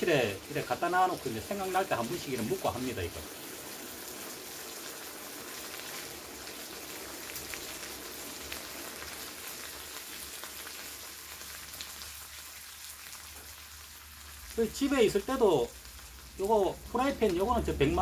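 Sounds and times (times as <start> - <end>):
octopus sizzling in a frying pan: 0.0 - 18.0.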